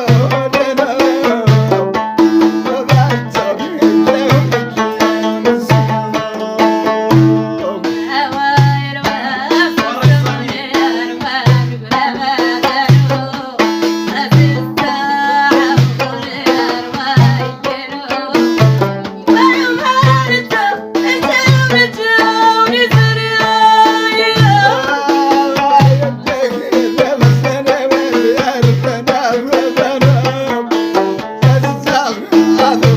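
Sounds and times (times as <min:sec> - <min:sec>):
hand drum beat: 0:00.0 - 0:32.9
person singing: 0:00.0 - 0:32.9
plucked string melody: 0:00.0 - 0:32.9.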